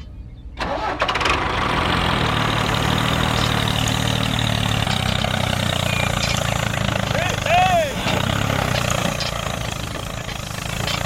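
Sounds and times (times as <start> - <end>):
small engine idling: 0.6 - 11.0.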